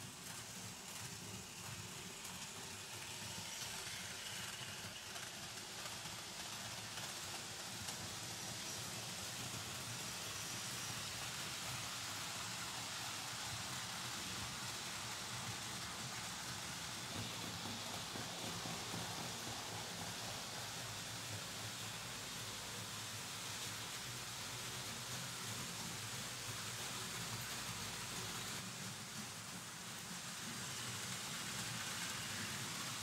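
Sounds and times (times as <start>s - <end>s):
model train wheels rolling on track: 0.0s - 33.0s.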